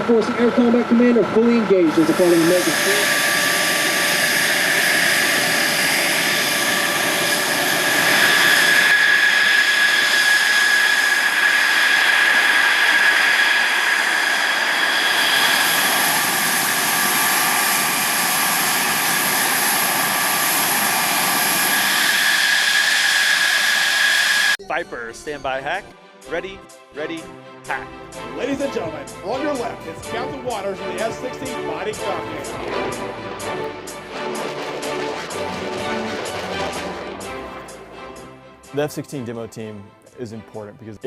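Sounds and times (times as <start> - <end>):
jet engine running: 0.0 - 24.6, 26.4 - 39.6.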